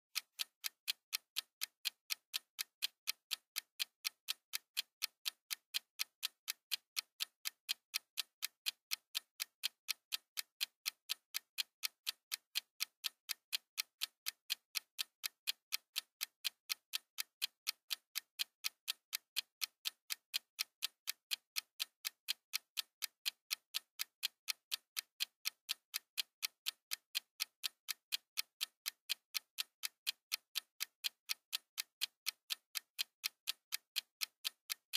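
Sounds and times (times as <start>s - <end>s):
oven timer ticking: 0.1s - 34.9s.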